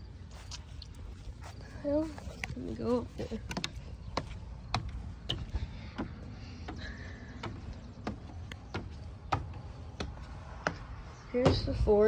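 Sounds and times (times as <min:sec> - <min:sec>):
footsteps on wooden stairs: 0:01.4 - 0:12.0.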